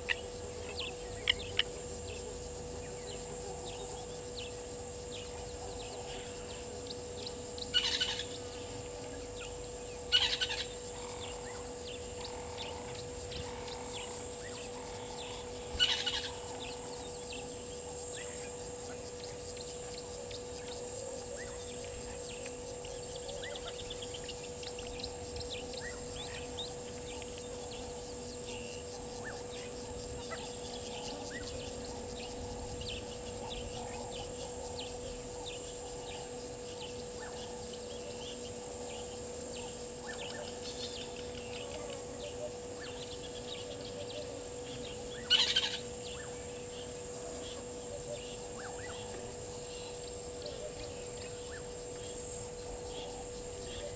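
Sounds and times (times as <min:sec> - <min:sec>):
high insect drone: 0:00.0 - 0:53.9
steady hum: 0:00.0 - 0:53.9.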